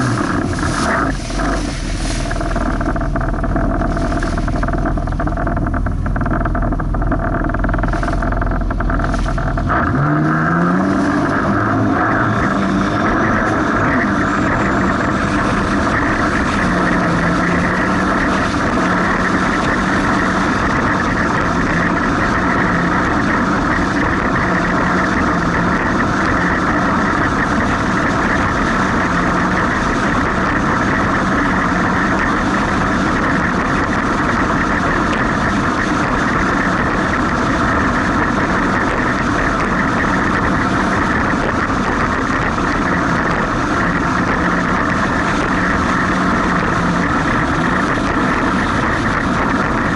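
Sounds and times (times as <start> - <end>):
dense rushing noise: 0.0 - 49.9
jet ski engine running: 0.0 - 49.9.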